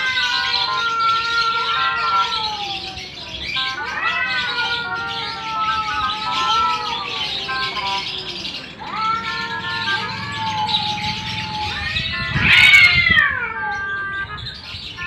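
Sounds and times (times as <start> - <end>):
cats yowling: 0.0 - 15.0.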